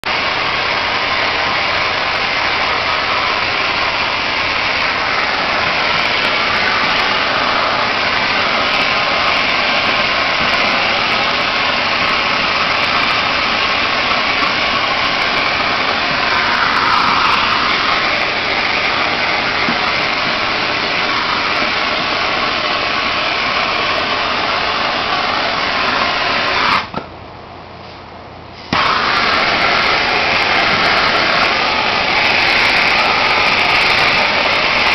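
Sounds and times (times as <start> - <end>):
gas torch hissing: 0.0 - 27.0, 27.8 - 34.9.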